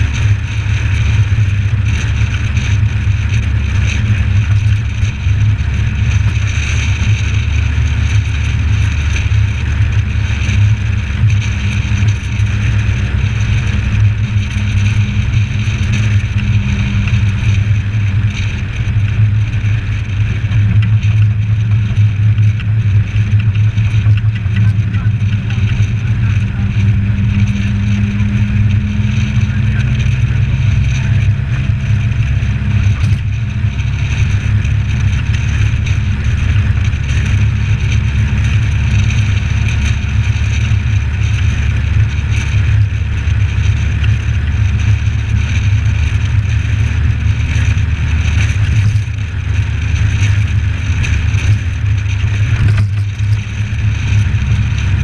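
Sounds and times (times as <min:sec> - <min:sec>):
muffled car engine and road noise: 0:00.0 - 0:55.0.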